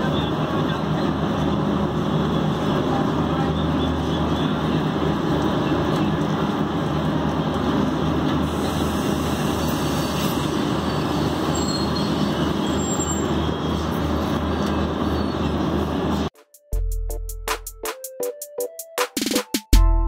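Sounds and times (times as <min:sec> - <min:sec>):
train wheels on rails: 0:00.0 - 0:16.3.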